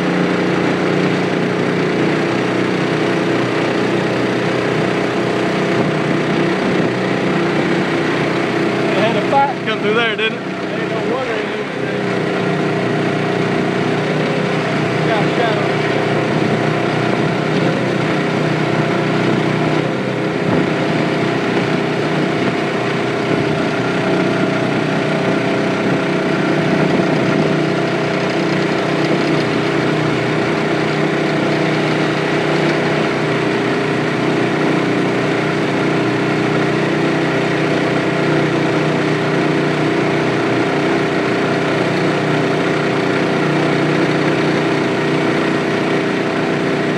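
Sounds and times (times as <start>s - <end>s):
small boat motor running: 0.0s - 46.9s.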